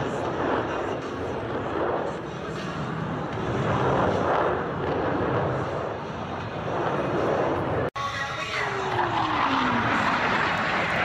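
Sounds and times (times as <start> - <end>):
airplane engine rushing past: 0.0 - 11.0.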